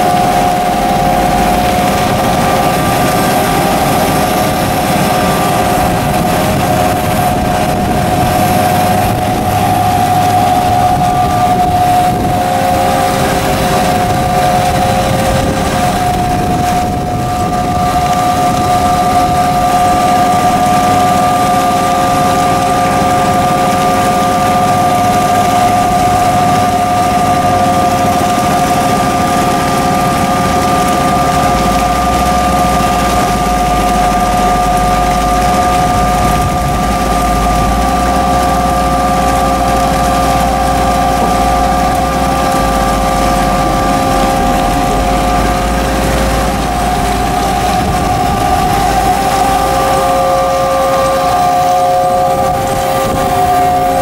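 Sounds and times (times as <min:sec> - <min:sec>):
high steady whine: 0:00.0 - 0:54.0
low rumble: 0:00.0 - 0:54.0
wash plant machinery running: 0:00.0 - 0:54.0.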